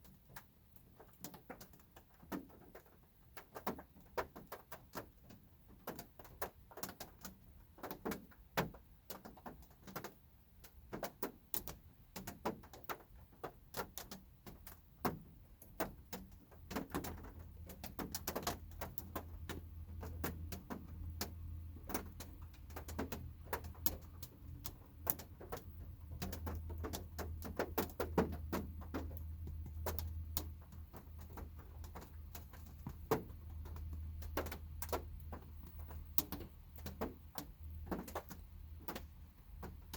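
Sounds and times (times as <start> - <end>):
raindrops tapping on car roof: 0.0 - 39.9.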